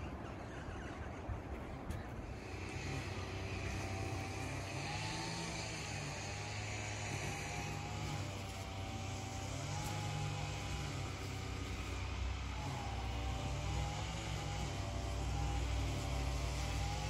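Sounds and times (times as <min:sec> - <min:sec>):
motor engine humming: 0:00.0 - 0:17.0.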